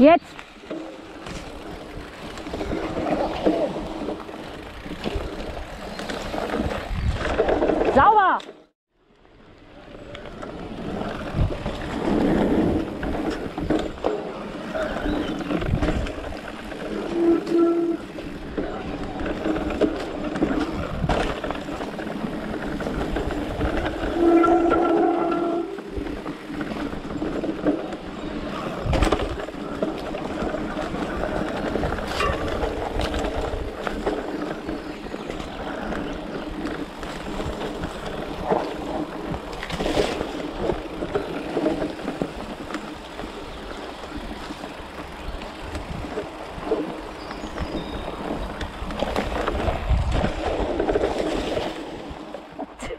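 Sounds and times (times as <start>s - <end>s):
bike tyres and chain rattling: 0.0s - 8.7s, 9.6s - 52.6s.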